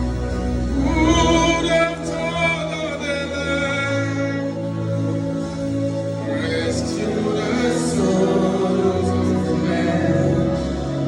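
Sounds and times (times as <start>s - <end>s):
gospel worship music: 0.0s - 11.0s
voices singing held notes: 0.4s - 11.0s.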